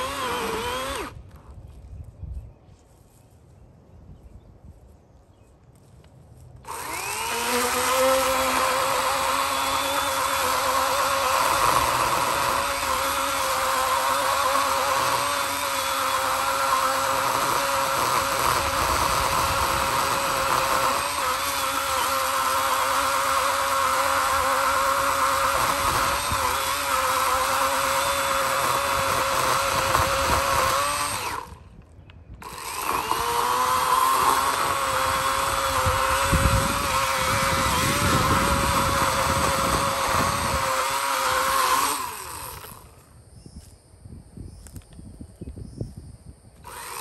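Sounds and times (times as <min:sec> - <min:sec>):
electric chainsaw cutting wood: 0:00.0 - 0:01.4, 0:06.6 - 0:43.2, 0:46.6 - 0:47.0.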